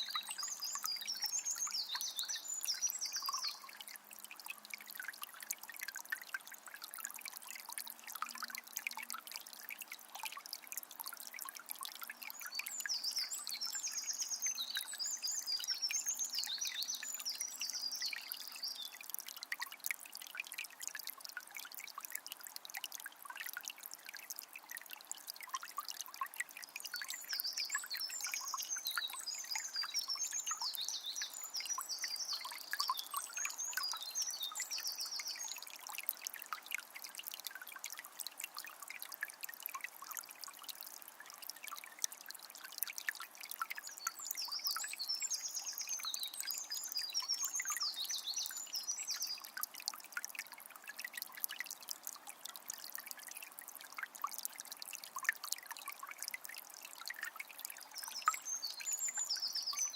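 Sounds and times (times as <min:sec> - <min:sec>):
spring water trickling: 0:00.0 - 0:59.9.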